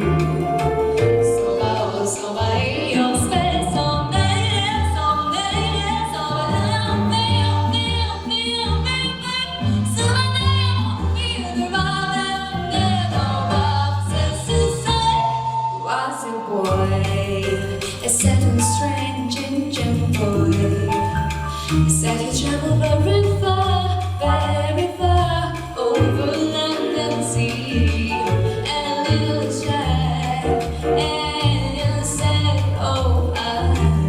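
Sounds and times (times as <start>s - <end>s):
melody with vibrato over bass: 0.0s - 34.0s.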